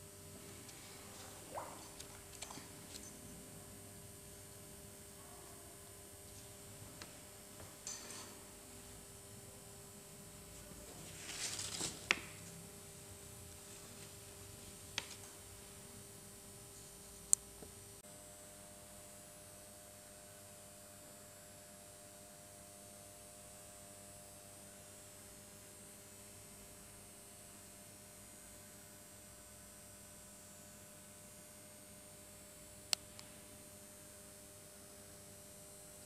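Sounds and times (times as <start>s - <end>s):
faint room hum: 0.0s - 36.0s.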